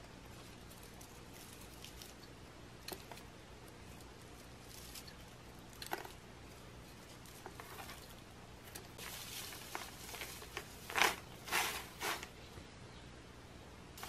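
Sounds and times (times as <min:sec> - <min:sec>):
raffia rustling and crinkling: 0:00.0 - 0:12.4
faint steady hum: 0:00.0 - 0:14.0.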